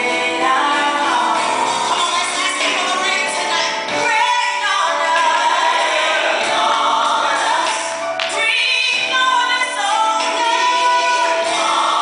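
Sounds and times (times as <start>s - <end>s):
gospel choir singing: 0.0s - 12.0s
musical accompaniment: 0.0s - 12.0s.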